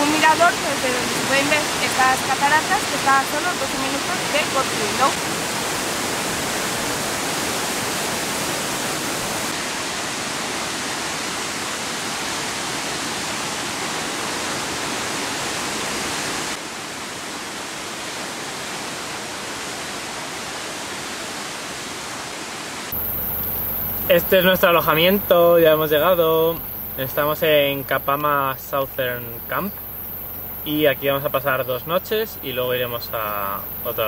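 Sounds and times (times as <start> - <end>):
waterfall rushing: 0.0 - 29.8, 30.6 - 34.0.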